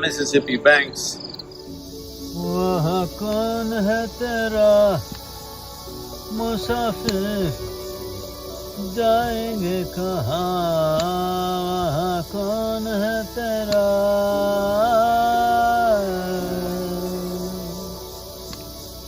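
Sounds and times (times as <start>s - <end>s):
solo voice chanting: 2.2s - 19.0s.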